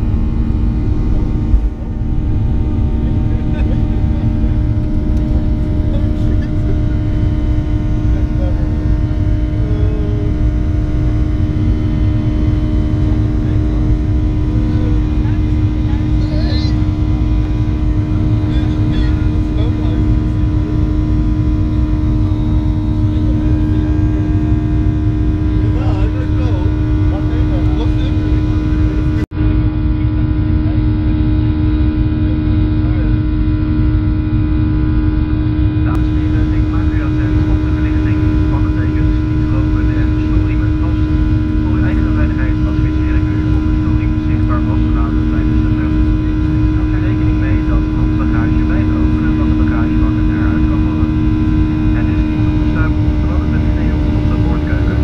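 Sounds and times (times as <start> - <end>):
jet engines rumbling: 0.0 - 55.0.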